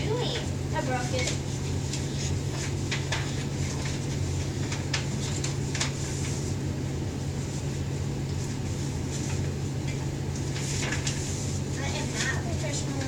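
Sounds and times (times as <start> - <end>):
steady low hum: 0.0 - 13.0
paper crackling being folded: 1.1 - 13.0.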